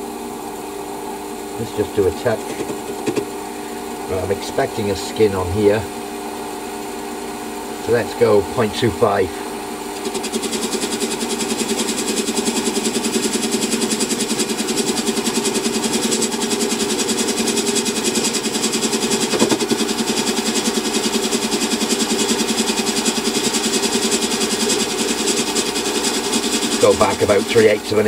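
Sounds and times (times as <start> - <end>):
metal lathe running: 1.6 - 28.0.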